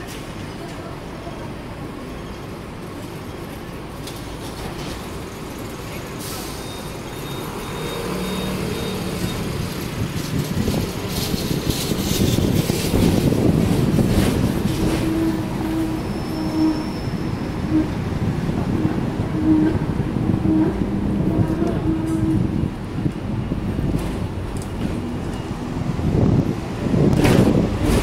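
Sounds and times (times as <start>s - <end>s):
tram wheels rumbling on rails: 0.0s - 28.0s.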